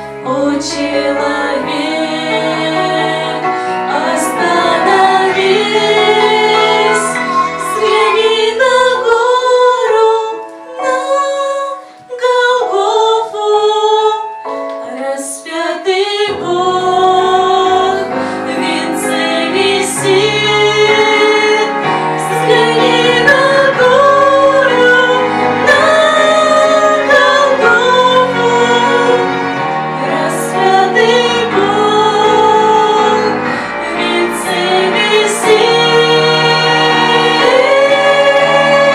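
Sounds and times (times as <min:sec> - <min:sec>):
girls singing: 0:00.0 - 0:38.9
instrumental accompaniment: 0:00.0 - 0:38.9.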